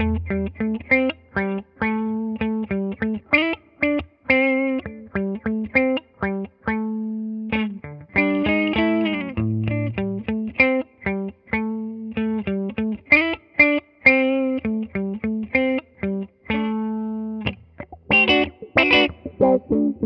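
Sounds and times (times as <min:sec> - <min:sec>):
electric guitar with auto-wah: 0:00.0 - 0:20.0.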